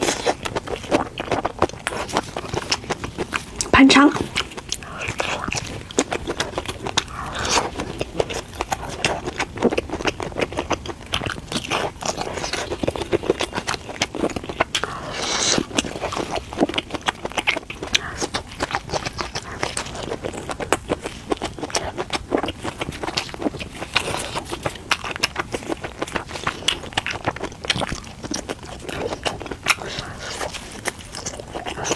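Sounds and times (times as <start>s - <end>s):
person chewing and biting: 0.0s - 31.9s.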